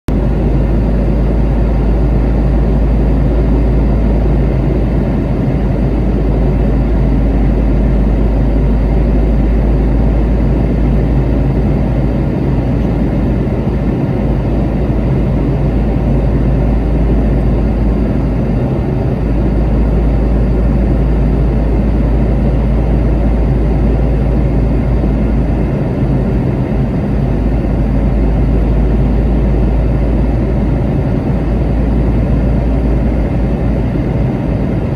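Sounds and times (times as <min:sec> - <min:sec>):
deep rumble: 0:00.1 - 0:34.9
jet engine drone in cabin: 0:00.1 - 0:34.9
low hum: 0:00.1 - 0:34.9.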